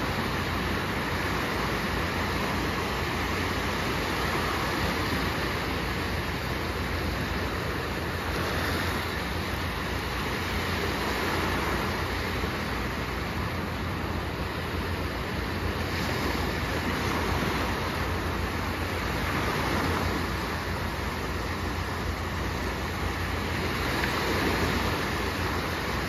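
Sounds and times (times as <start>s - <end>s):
waves washing onto shore: 0.0s - 26.0s.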